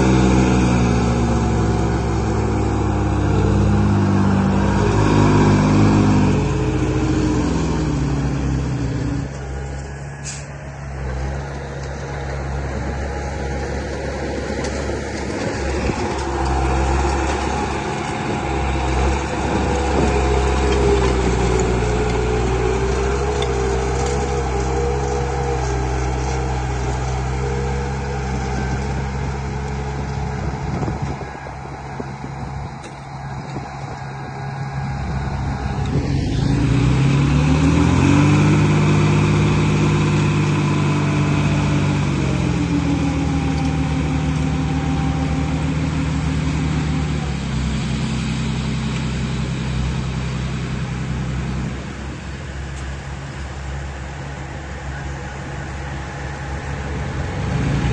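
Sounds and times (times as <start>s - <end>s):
construction machine engine running: 0.0s - 57.9s.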